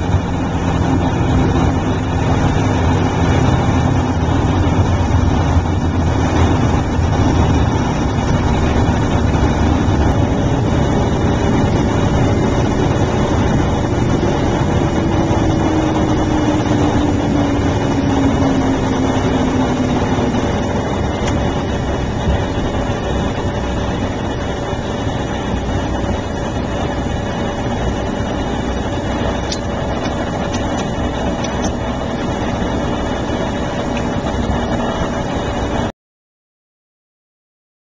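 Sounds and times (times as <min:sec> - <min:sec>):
turboprop engines droning: 0:00.0 - 0:35.9.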